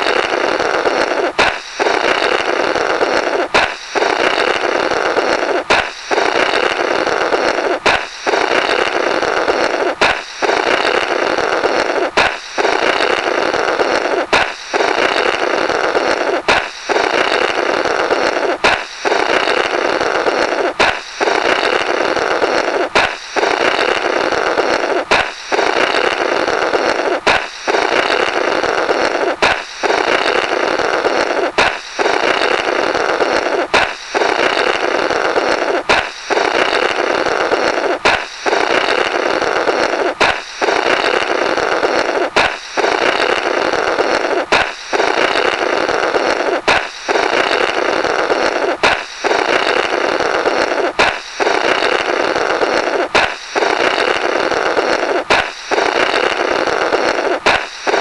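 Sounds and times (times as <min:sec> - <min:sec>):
balloon popping: 0:00.0 - 0:58.0
blowing blurt through rubber: 0:00.0 - 0:58.0.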